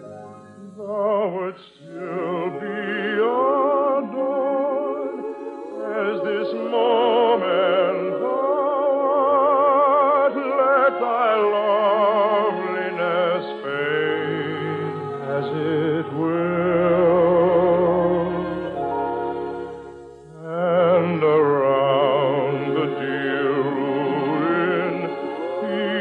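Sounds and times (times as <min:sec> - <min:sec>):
operatic singing with vibrato: 0:00.0 - 0:26.0.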